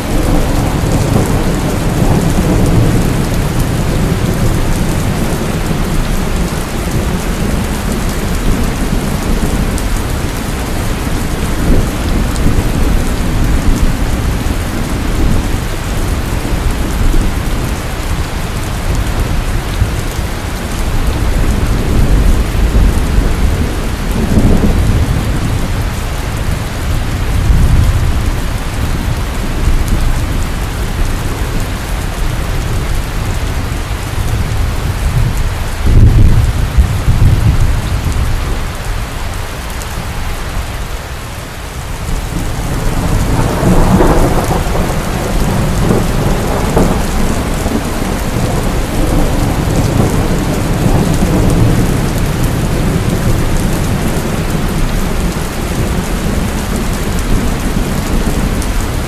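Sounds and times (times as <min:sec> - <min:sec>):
thunder rumbling: 0:00.0 - 0:40.2, 0:41.3 - 0:59.0
heavy rain pouring: 0:00.0 - 0:59.0.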